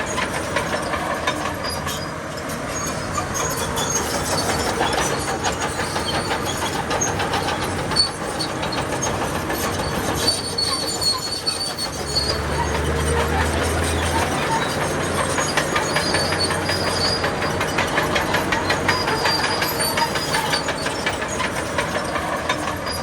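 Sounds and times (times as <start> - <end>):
bulldozer tracks clanking: 0.0 - 23.0
diesel engine: 0.0 - 23.0
track squeals: 0.0 - 23.0.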